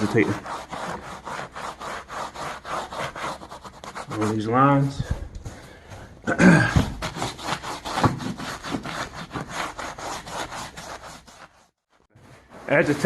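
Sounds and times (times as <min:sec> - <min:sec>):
brush scrubbing carpet: 0:00.0 - 0:05.0, 0:06.7 - 0:13.0.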